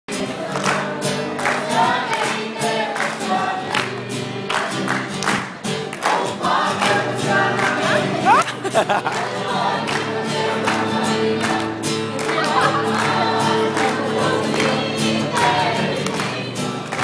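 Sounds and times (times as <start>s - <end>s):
choir singing: 0.1s - 5.1s, 5.9s - 17.0s.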